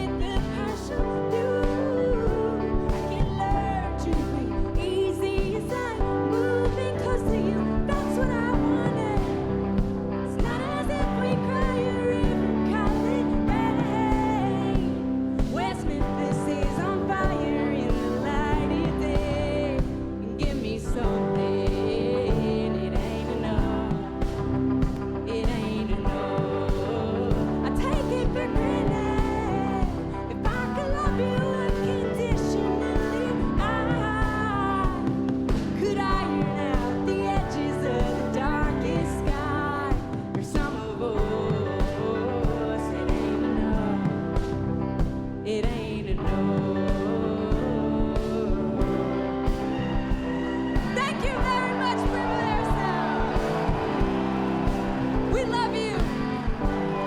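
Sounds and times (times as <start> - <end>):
drum beats: 0.0 - 57.0
guitar chords: 0.0 - 57.0
live band music: 0.0 - 57.0
person singing: 0.0 - 57.0.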